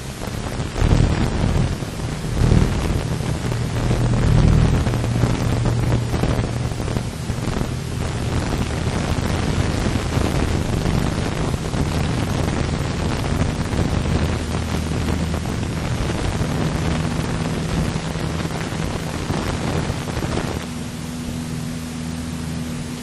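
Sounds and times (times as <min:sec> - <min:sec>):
airplane engine and propeller drone: 0:00.0 - 0:23.0
rushing noise: 0:00.0 - 0:23.0.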